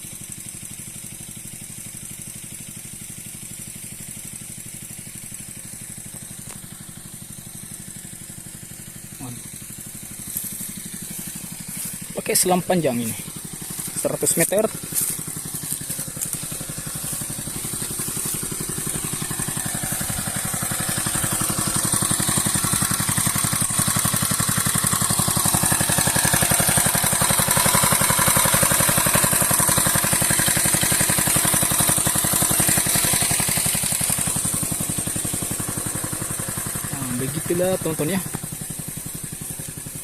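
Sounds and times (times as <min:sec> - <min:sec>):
small petrol engine running: 0:00.0 - 0:40.0.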